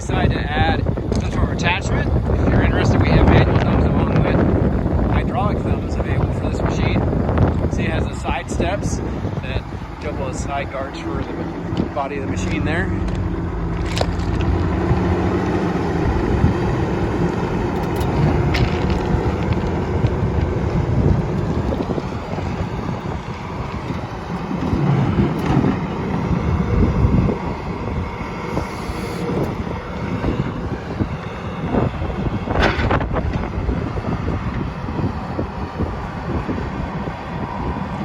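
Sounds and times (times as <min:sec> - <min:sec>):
excavator diesel engine running: 0:00.0 - 0:38.0
wind buffeting microphone: 0:00.0 - 0:38.0.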